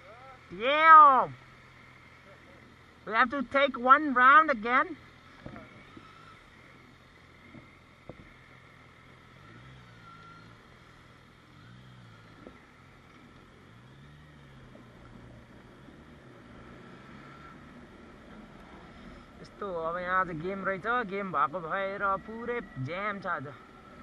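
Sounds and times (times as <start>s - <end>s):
car engine: 0.0s - 24.0s
road noise inside car: 0.0s - 24.0s.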